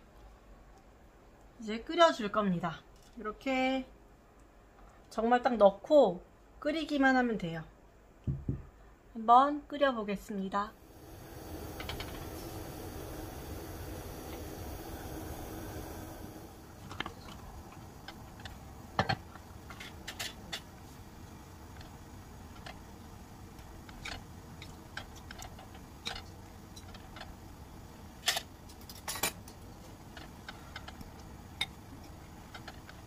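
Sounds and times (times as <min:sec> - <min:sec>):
low steady hiss: 0:00.0 - 0:33.0.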